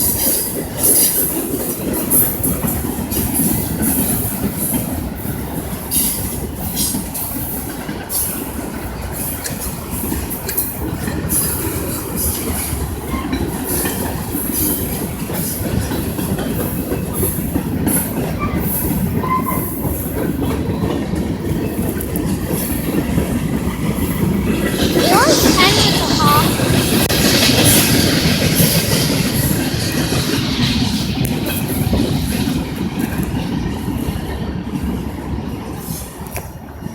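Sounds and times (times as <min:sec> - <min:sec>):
rail joint clacks: 0:00.0 - 0:25.0, 0:26.1 - 0:36.9
train wheels rumbling on rails: 0:00.0 - 0:36.9.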